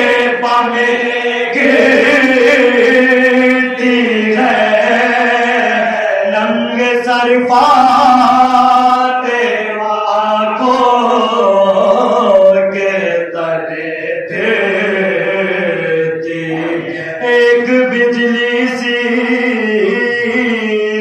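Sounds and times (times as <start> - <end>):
group of men singing: 0.0 - 21.0
man chanting elegy: 0.0 - 21.0.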